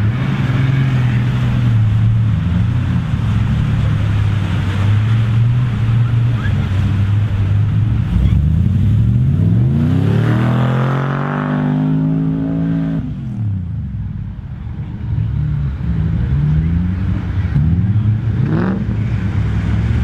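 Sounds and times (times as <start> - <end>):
diesel engine revving: 0.0 - 13.8, 15.2 - 20.0
steady rushing noise: 0.0 - 20.0.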